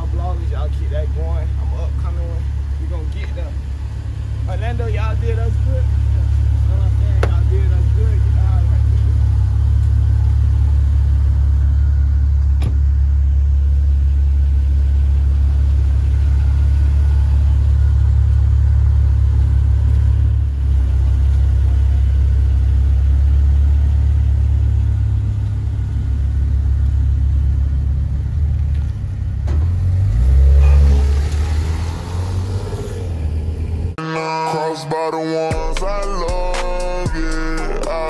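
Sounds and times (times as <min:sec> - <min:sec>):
car rumbling on the move: 0:00.0 - 0:34.0.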